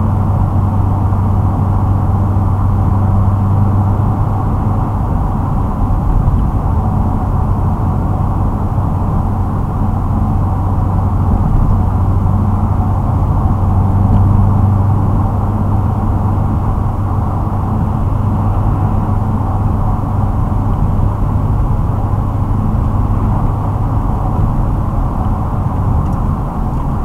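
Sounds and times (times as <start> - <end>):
low car exhaust drone: 0.0 - 27.0.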